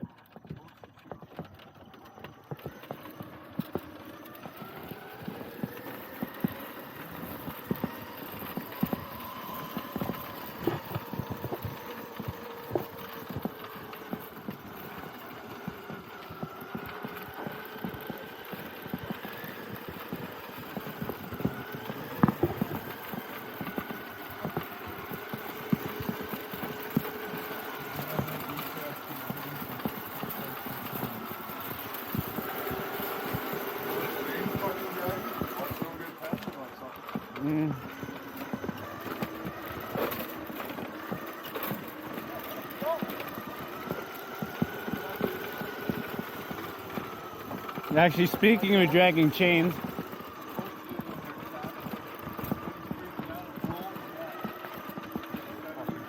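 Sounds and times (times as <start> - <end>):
electric motor whining: 0.0 - 56.0
toy truck knocking over rough ground: 0.3 - 56.0.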